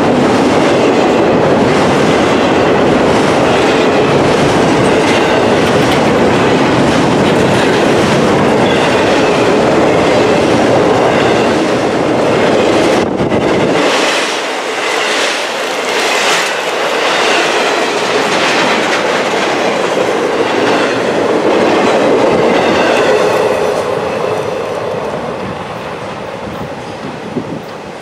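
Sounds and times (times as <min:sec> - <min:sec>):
freight train wheels clacking: 0:00.0 - 0:28.0.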